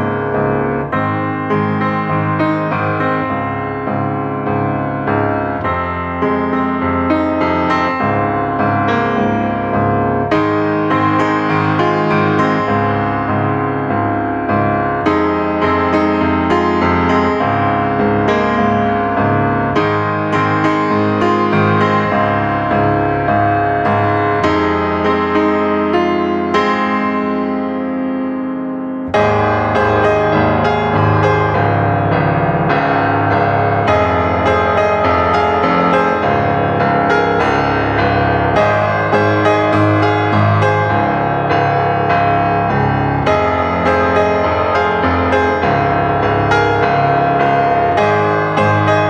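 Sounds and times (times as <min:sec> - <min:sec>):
keyboard music with bass notes: 0:00.0 - 0:49.0.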